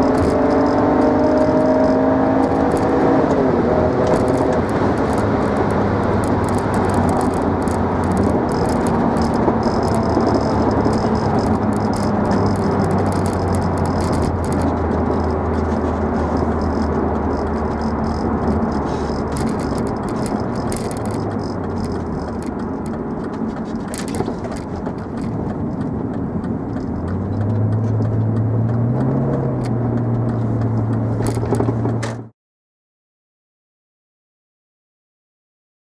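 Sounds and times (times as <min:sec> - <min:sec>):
car exhaust drone: 0:00.0 - 0:32.3.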